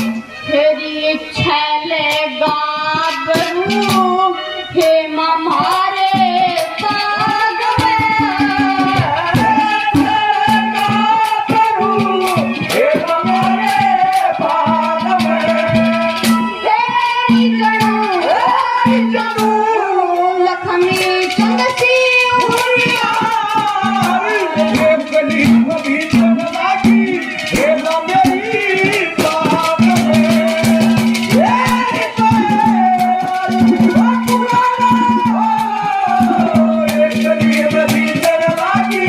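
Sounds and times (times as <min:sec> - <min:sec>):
child singing: 0:00.0 - 0:39.0
drum and rattling percussion: 0:00.0 - 0:39.0.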